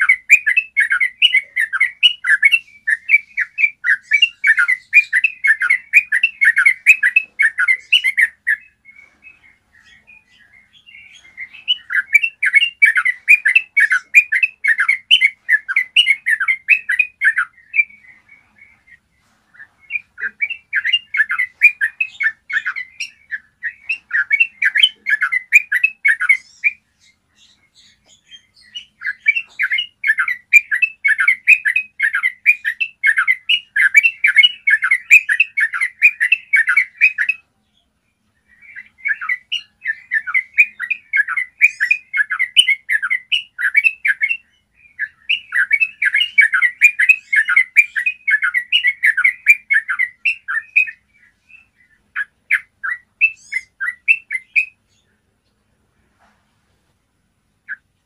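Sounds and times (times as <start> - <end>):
bird singing rapid clear notes: 0.0 - 55.7, 57.5 - 58.0.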